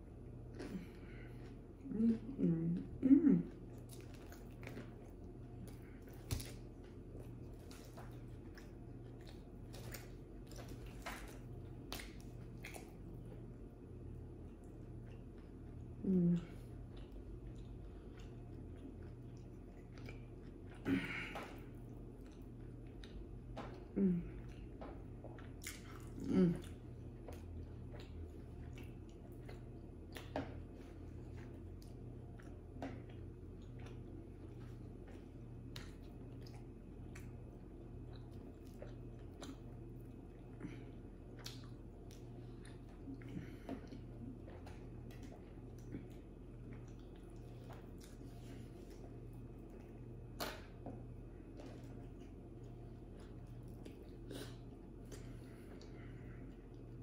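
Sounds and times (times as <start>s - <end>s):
low steady hum: 0.0s - 57.0s
chewing mouth clicks and smacks: 3.5s - 57.0s.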